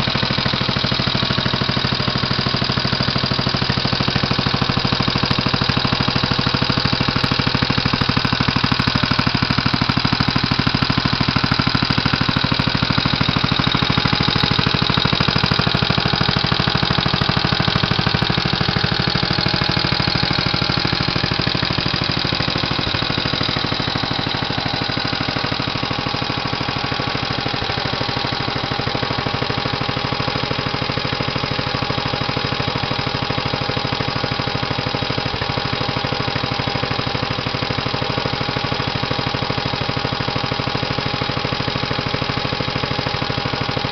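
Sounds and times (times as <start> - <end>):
single-cylinder engine running: 0.0 - 43.9.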